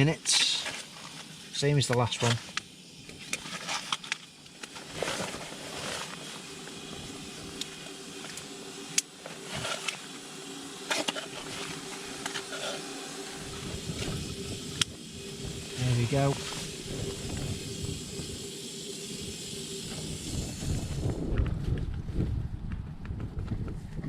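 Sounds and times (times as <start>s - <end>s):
steady hiss: 0.0s - 21.4s.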